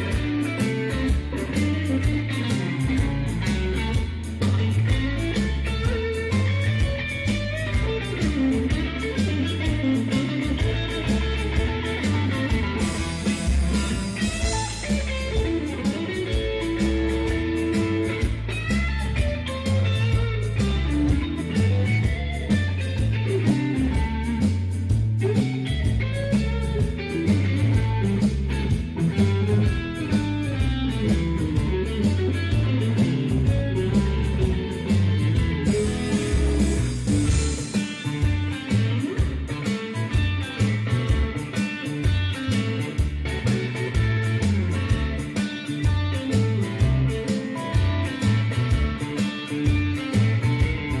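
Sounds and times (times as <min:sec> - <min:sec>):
drums keeping steady beat: 0:00.0 - 0:51.0
electric guitar: 0:00.0 - 0:51.0
walking bass line: 0:00.0 - 0:51.0.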